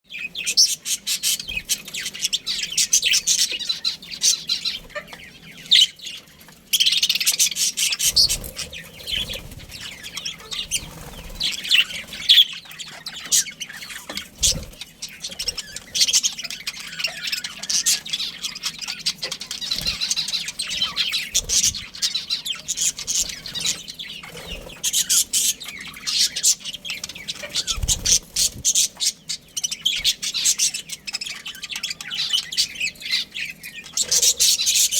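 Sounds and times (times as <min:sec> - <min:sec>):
budgerigars chirping: 0:00.1 - 0:34.9.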